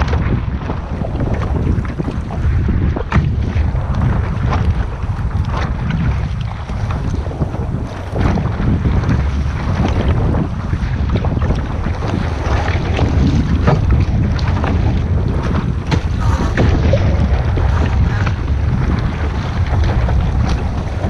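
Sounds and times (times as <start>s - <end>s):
water splashing against boat: 0.0s - 21.0s
wind buffeting microphone: 0.0s - 21.0s.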